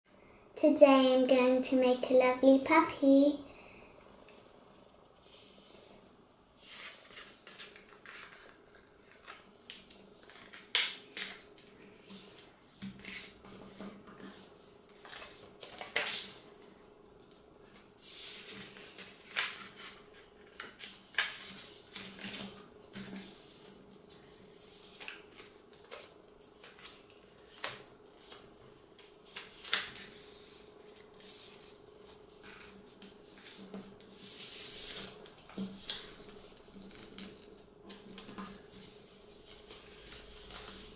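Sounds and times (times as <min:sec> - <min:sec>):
paper rustling while folded: 0:04.1 - 0:40.9.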